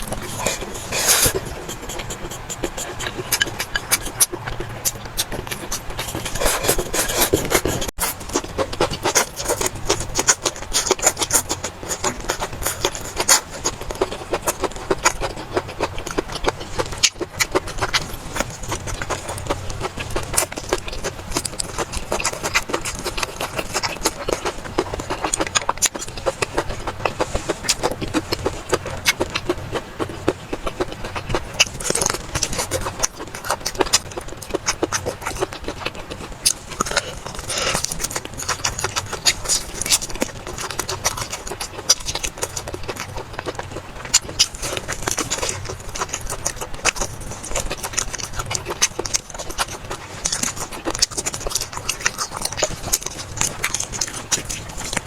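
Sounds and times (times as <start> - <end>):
wet chewing and slurping: 0.0 - 55.0.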